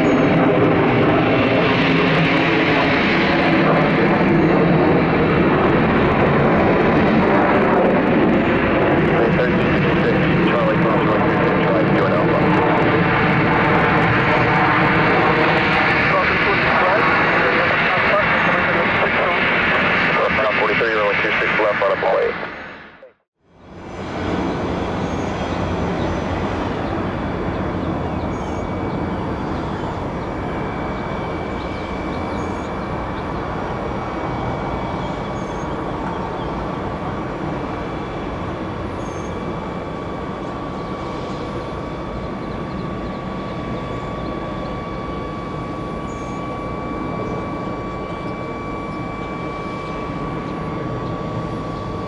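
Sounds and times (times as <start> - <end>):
high jet engine whine: 0.0 - 52.0
jet airliner engines roaring: 0.0 - 52.0.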